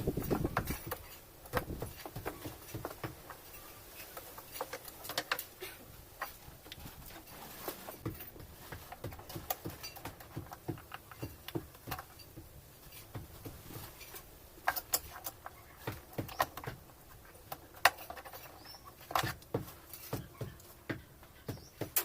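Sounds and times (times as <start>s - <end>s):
tools clicking and knocking: 0.2s - 5.6s, 8.1s - 13.3s, 14.6s - 22.0s.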